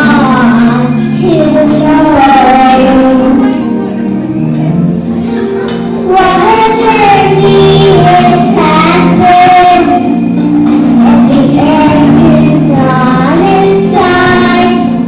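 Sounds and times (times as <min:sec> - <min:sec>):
girl singing into microphone: 0:00.0 - 0:04.6, 0:05.2 - 0:15.0
backing track music: 0:00.0 - 0:15.0.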